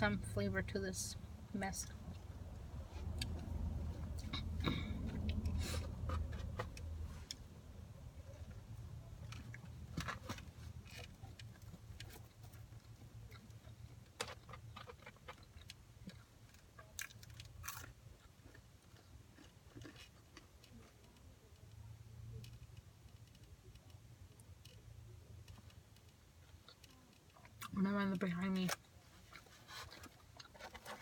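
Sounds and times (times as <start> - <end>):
low steady hum: 0.0 - 31.0
chewing and crunching food: 1.8 - 31.0.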